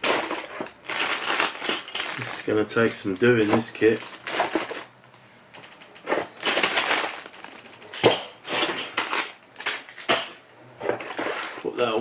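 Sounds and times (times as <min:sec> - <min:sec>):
plastic parts rustling and clattering: 0:00.0 - 0:04.9, 0:05.5 - 0:12.0.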